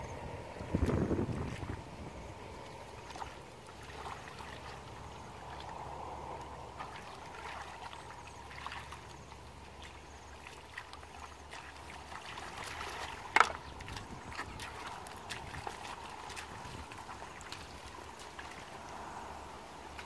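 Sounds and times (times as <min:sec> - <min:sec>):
water sloshing and trickling: 0:00.0 - 0:20.0.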